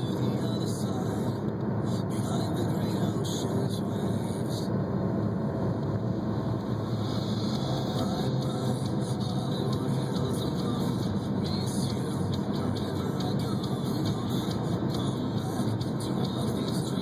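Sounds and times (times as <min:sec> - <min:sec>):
car driving on snow: 0:00.0 - 0:17.0.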